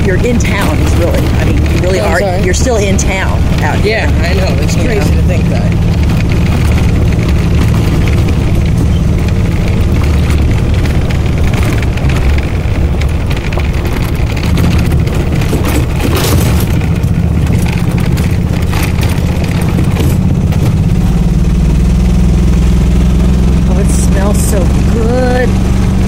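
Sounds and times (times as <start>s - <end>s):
tyres crunching on gravel: 0.0s - 21.6s
vehicle engine and road drone: 0.0s - 26.0s.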